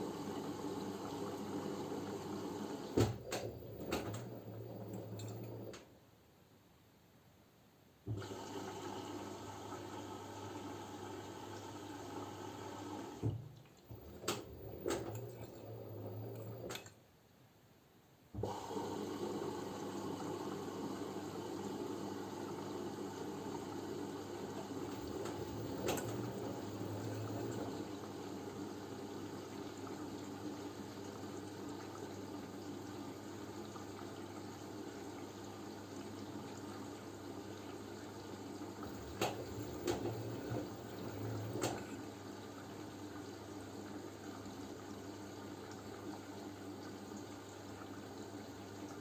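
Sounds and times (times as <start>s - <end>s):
water sloshing in washing machine: 0.0s - 5.9s, 8.1s - 16.9s, 18.4s - 49.0s
faint machine hum: 0.0s - 6.3s, 8.0s - 17.2s, 18.3s - 49.0s.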